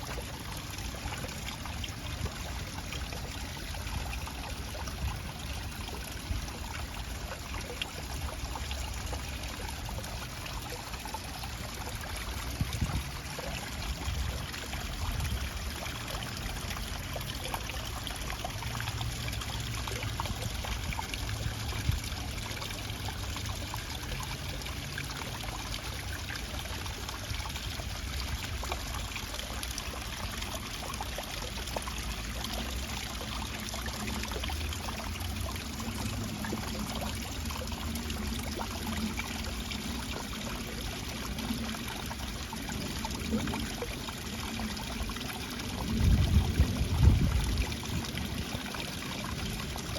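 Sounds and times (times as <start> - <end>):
water flowing and trickling: 0.0 - 49.9.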